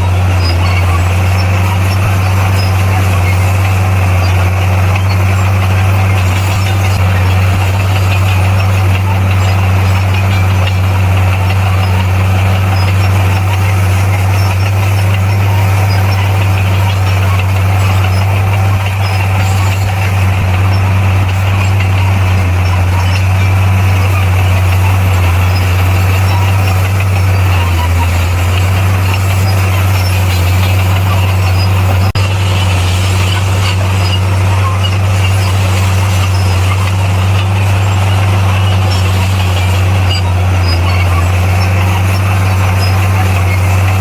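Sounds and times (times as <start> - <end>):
diesel engine humming: 0.0 - 44.0.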